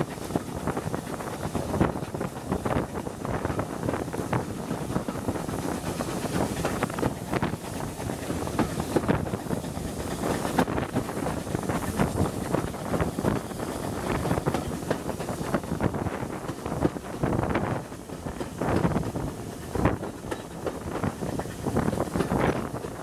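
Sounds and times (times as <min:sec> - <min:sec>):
train rattling on track: 0:00.0 - 0:23.0
wind rushing over microphone: 0:00.0 - 0:23.0.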